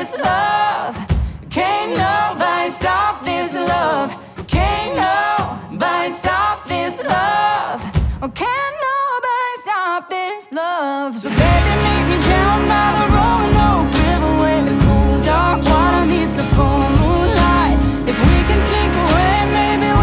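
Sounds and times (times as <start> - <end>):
song with sung vocals: 0.0 - 20.0.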